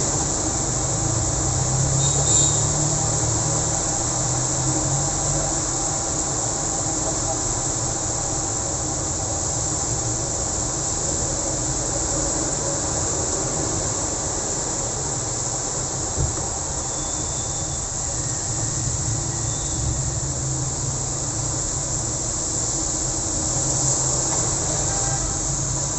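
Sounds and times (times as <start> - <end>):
passing traffic rumble: 0.0 - 25.9
rain hissing on a road: 0.0 - 25.9.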